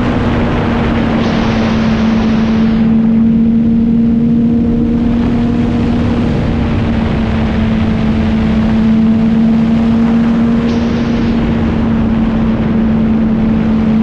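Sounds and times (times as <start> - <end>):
motorcycle engine cruising: 0.0 - 14.0
wind rumbling on microphone: 0.0 - 14.0.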